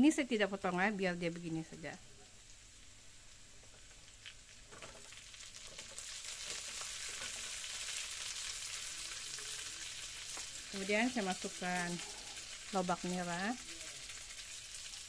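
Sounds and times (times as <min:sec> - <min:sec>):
food sizzling in oil in a wok: 0:00.0 - 0:15.0.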